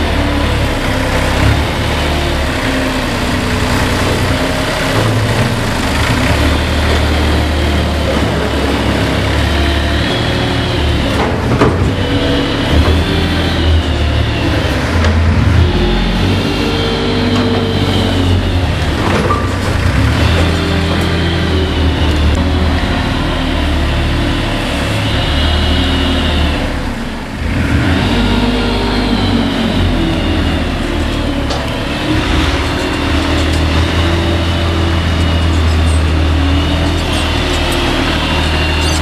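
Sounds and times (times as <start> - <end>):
diesel engine revving: 0.0 - 39.0.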